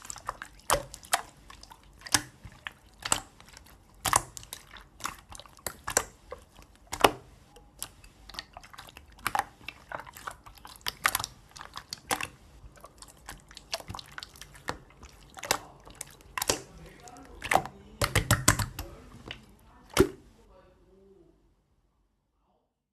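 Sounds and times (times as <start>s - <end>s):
slime squished by hand: 0.0s - 20.4s.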